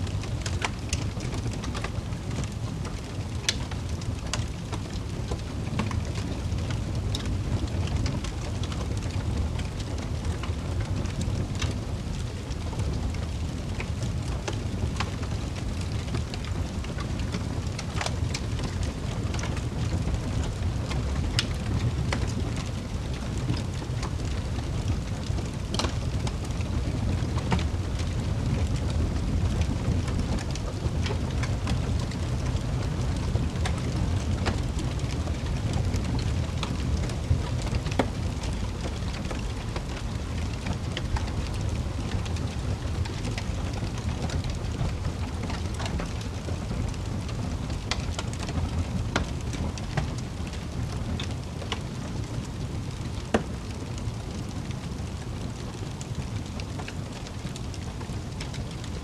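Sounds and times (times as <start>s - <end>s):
flames rumbling: 0.0s - 59.0s
wood crackling and popping: 0.0s - 59.0s.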